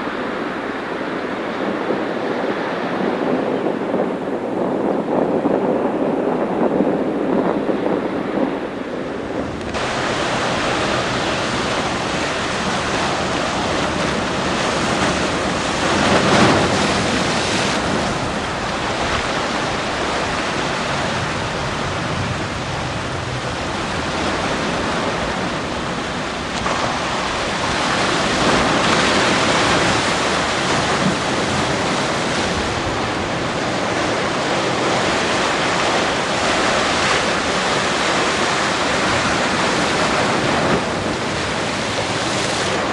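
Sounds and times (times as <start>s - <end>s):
ocean surf washing ashore: 0.0s - 42.9s.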